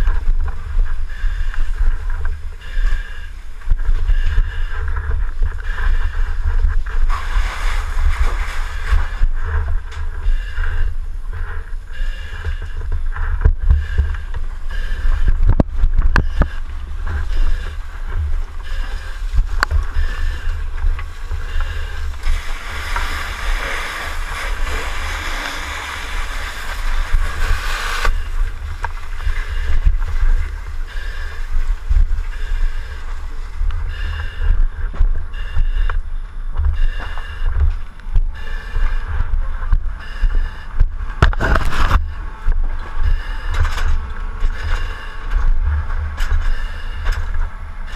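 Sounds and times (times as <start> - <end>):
camera handling rumble and rustling: 3.4 - 47.9.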